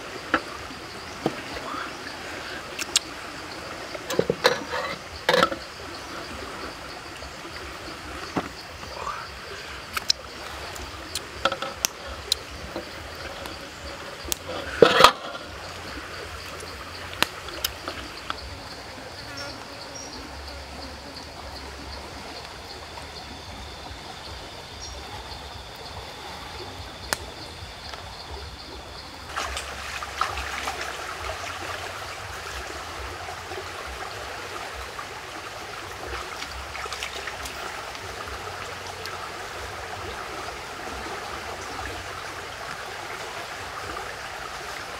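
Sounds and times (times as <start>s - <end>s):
stream water rushing: 0.0s - 44.9s
thin insect tone: 0.0s - 44.9s.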